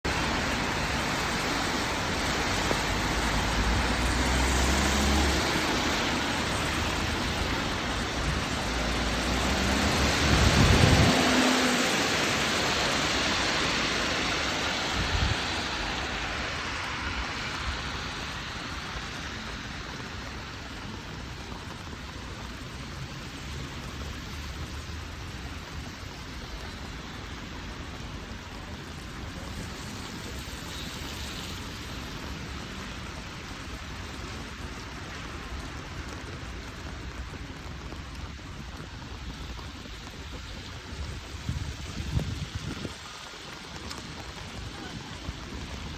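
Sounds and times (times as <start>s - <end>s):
steady rain: 0.0s - 45.9s
vehicle passing on wet road: 0.1s - 45.9s.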